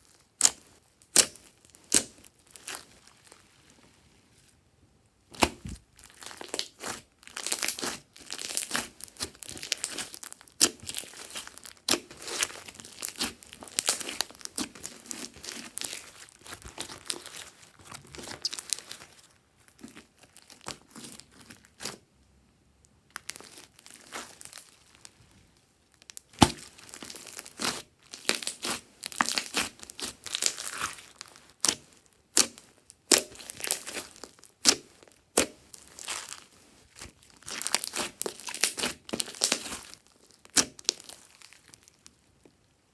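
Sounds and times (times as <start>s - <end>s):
slime squishing and popping: 0.4s - 2.9s, 5.3s - 22.0s, 26.0s - 42.0s.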